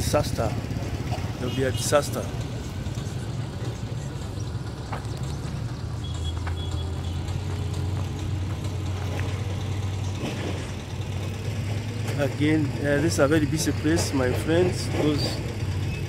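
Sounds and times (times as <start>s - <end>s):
vehicle engine low hum: 0.0s - 16.0s.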